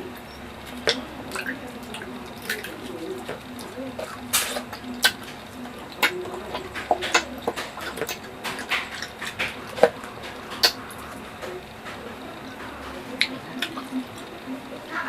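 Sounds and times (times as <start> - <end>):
wet chewing clicks and smacks: 0.0 - 14.8.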